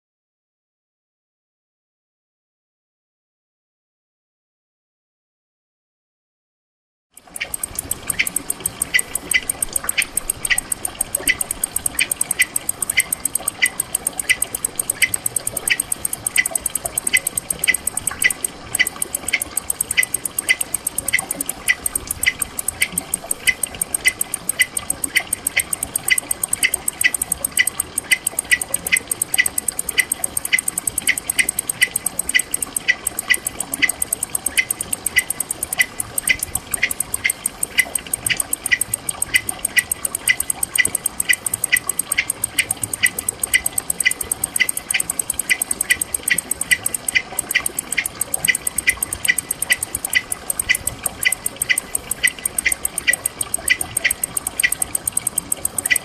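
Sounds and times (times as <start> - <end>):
insect chirps: 7.2 - 56.0.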